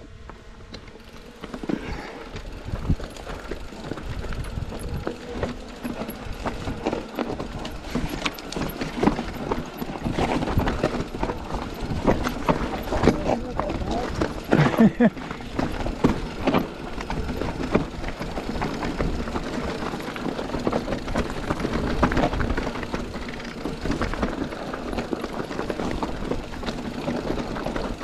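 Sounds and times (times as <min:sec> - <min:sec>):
bike knocking and rattling: 0:00.0 - 0:28.0
tyres crunching on gravel: 0:00.3 - 0:28.0.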